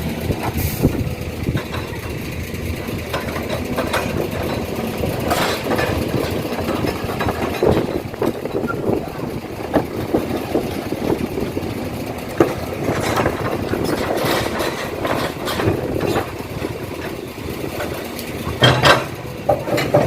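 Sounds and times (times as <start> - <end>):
heavy vehicle engines running: 0.0 - 20.0.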